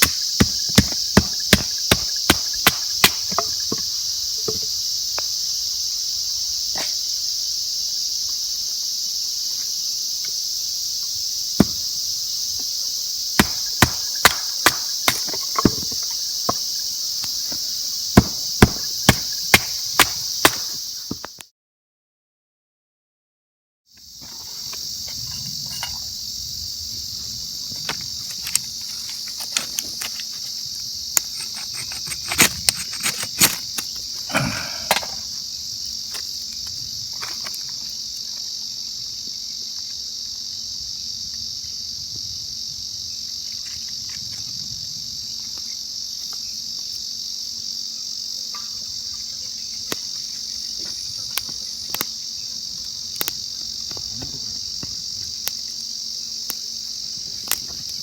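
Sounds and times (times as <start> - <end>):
crickets chirping: 0.0 - 21.5, 23.9 - 58.0.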